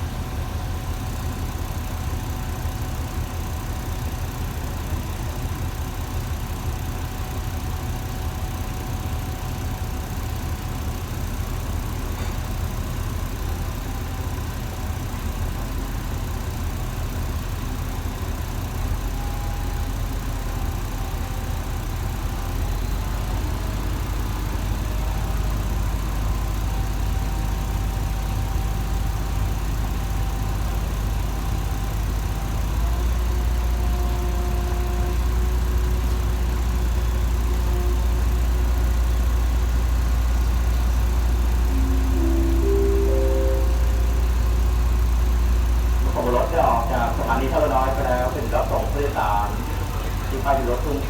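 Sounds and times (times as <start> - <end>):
diesel train engine running: 0.0 - 51.0.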